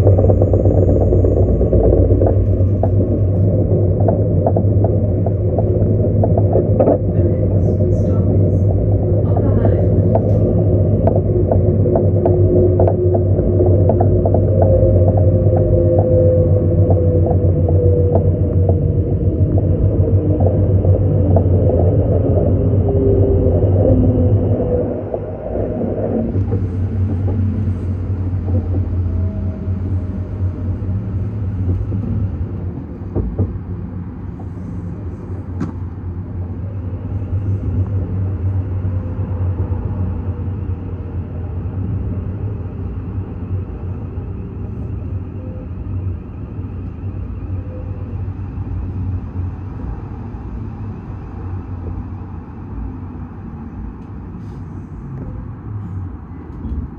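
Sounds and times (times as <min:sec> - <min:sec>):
train wheels rumbling on track: 0:00.0 - 0:56.9.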